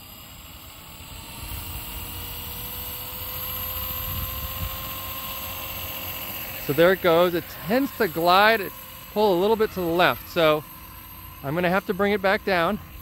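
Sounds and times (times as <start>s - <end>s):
rc helicopter motor and rotor whine: 0.0s - 13.0s.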